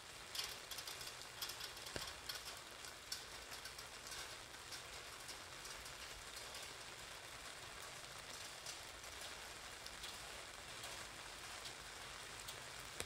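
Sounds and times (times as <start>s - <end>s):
rain falling: 0.0s - 13.0s
raindrops tapping on umbrella: 0.0s - 13.0s.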